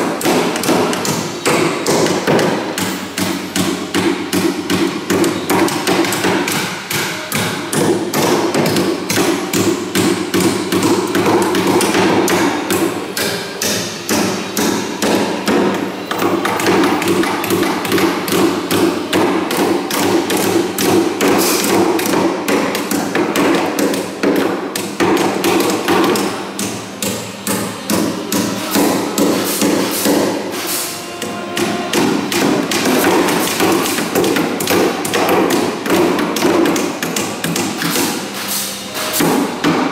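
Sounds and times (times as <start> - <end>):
hammers striking wood: 0.0 - 30.4, 31.2 - 38.2, 39.2 - 39.9.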